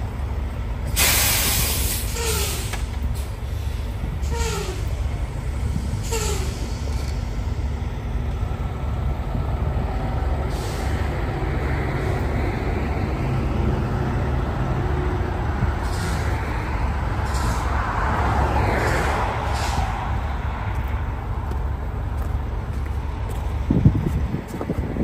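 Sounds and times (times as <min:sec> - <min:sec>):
diesel truck idling: 0:00.0 - 0:25.0.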